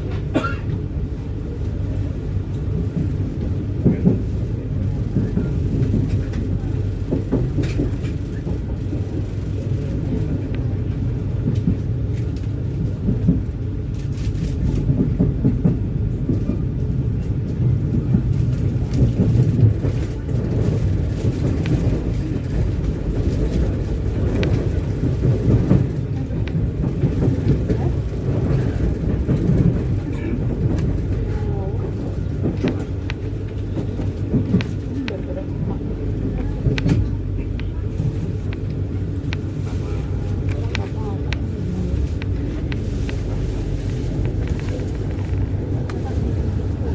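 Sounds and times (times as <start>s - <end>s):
train carriage rumbling: 0.0s - 46.9s.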